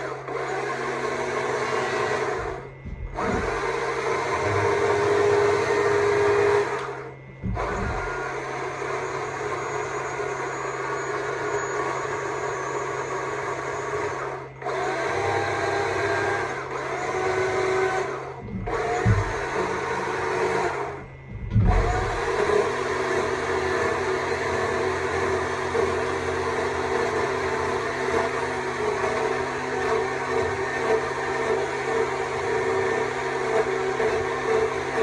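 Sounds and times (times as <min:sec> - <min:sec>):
electric chainsaw cutting wood: 0:00.0 - 0:35.0.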